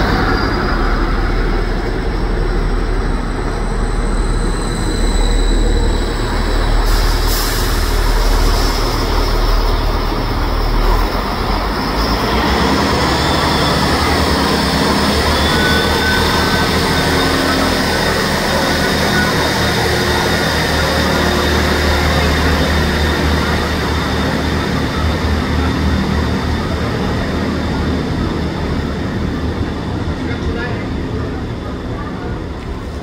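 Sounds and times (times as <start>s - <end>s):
diesel train engine hum: 0.0s - 33.0s.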